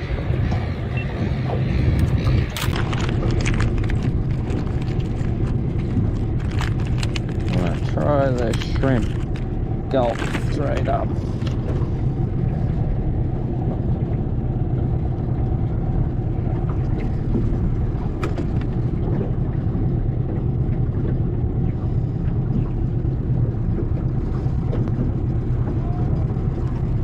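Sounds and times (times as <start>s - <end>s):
outboard motor idling: 0.0s - 27.0s.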